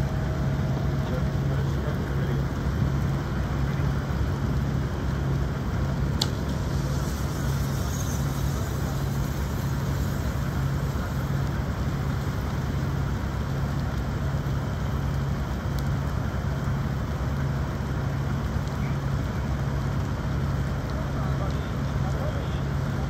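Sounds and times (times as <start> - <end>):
constant rushing noise: 0.0 - 23.0
diesel truck engine idling: 0.0 - 23.0.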